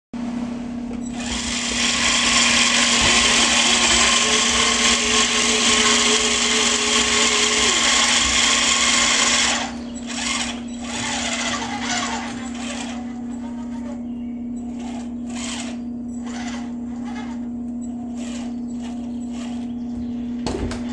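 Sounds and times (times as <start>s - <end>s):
constant low hum: 0.2s - 20.9s
electric motor whine: 1.0s - 20.9s.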